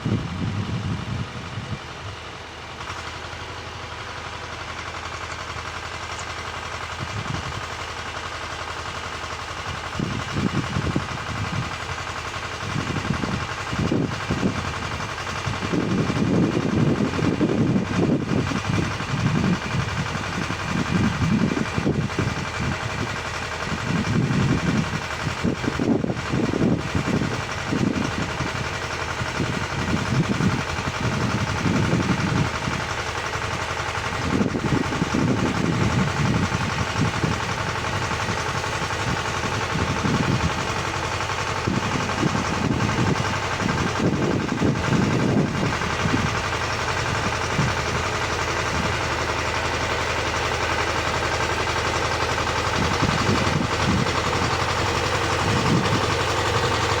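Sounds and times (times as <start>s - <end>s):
rotary tiller working soil: 0.0s - 57.0s
tractor engine running: 0.0s - 57.0s.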